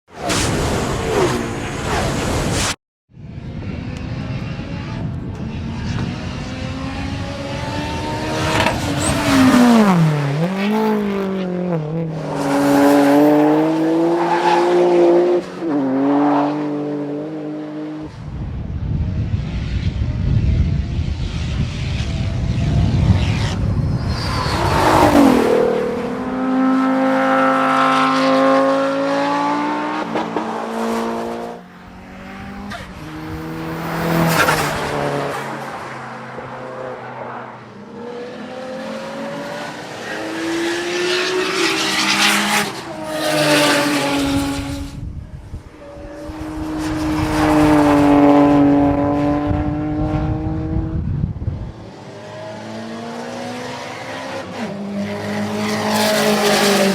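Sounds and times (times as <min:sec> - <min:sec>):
race car engines revving: 0:03.2 - 0:18.1, 0:19.3 - 0:56.9.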